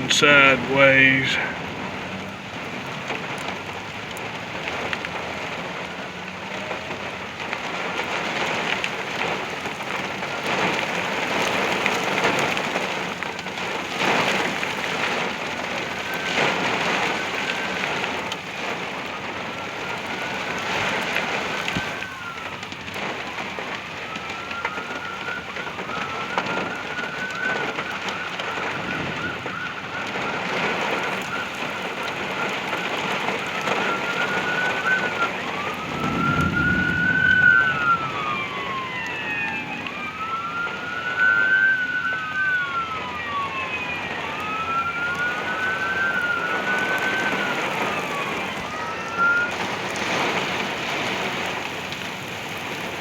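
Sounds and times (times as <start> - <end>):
distant siren wailing: 0.0 - 53.0
heavy rain pouring: 0.0 - 53.0.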